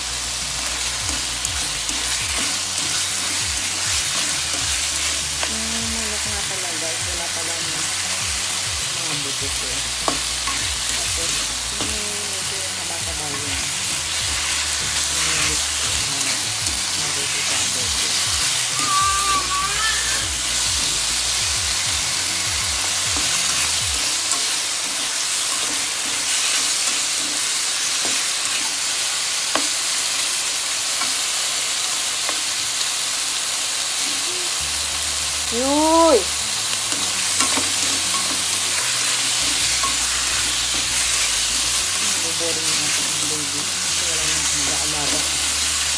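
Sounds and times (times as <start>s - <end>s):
meat sizzling in a pan: 0.0s - 45.9s.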